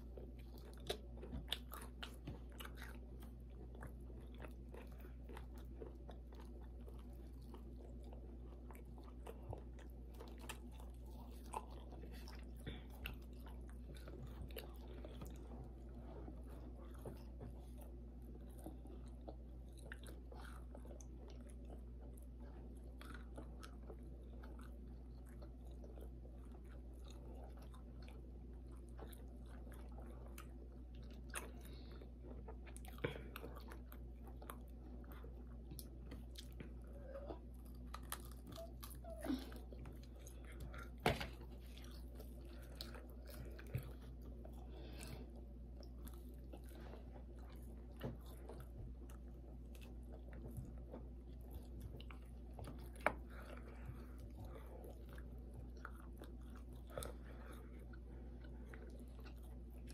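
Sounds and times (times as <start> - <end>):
chewing crispy fried pork: 0.0 - 59.9
steady low hum: 0.0 - 59.9.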